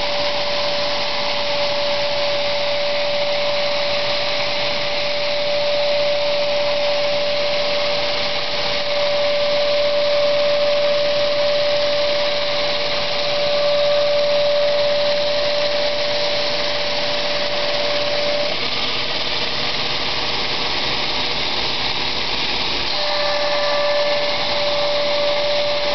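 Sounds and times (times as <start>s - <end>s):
belt grinder grinding steel: 0.0s - 25.9s
constant whine: 0.0s - 25.9s.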